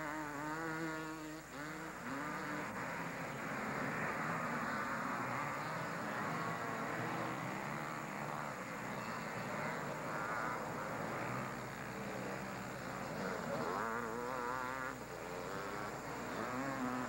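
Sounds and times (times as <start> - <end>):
racing quad engines revving: 0.0 - 17.0.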